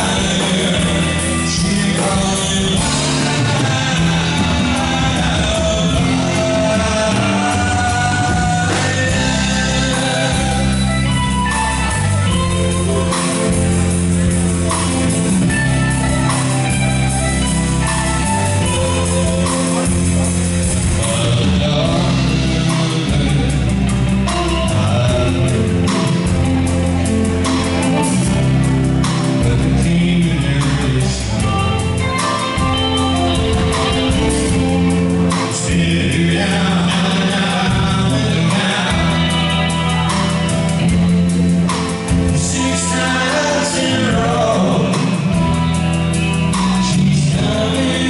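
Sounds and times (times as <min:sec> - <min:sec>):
bass guitar: 0:00.0 - 0:48.0
drum kit: 0:00.0 - 0:48.0
electric guitars: 0:00.0 - 0:48.0
person singing: 0:00.0 - 0:48.0.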